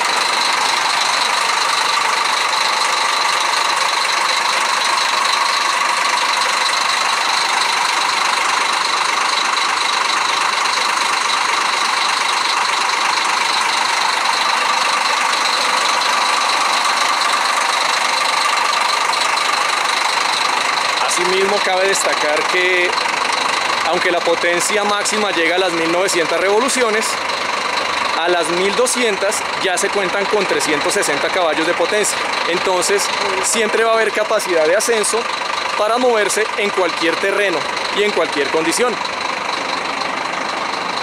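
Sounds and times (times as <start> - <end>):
diesel engine idling: 0.0 - 41.0.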